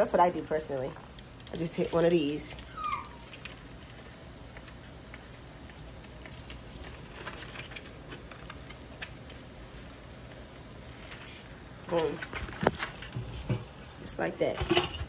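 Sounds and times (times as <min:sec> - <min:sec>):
seasoning pattering on crabs: 0:00.0 - 0:13.8.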